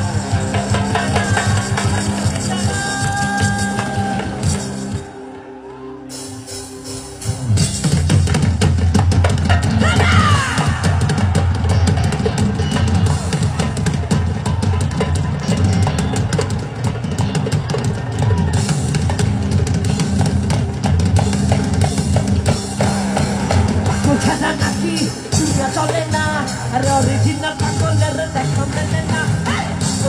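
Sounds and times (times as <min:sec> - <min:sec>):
drum kit beat: 0:00.0 - 0:05.2, 0:06.2 - 0:30.0
heavy bass line: 0:00.0 - 0:05.4, 0:06.1 - 0:16.3, 0:18.2 - 0:30.0.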